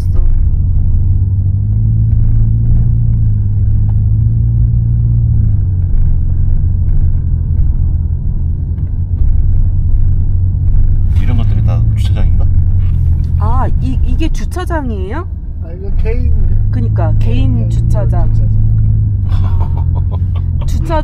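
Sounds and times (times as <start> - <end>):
car engine and road rumble: 0.0 - 21.0
low hum: 0.0 - 21.0.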